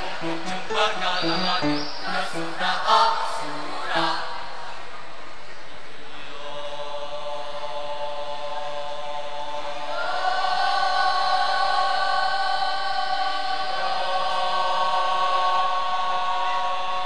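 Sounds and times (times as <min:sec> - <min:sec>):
children's choir singing chords: 0:00.0 - 0:05.3, 0:06.0 - 0:17.0.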